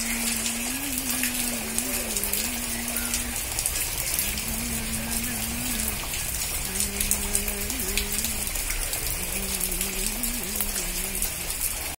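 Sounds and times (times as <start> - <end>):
steady rain patter: 0.0 - 12.0.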